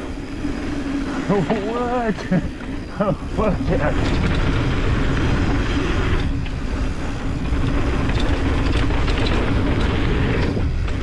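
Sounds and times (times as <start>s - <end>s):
bicycle clattering over rough ground: 0.0s - 11.0s
bicycle tyre and drivetrain noise: 0.0s - 11.0s
wind rumble on microphone: 0.0s - 11.0s.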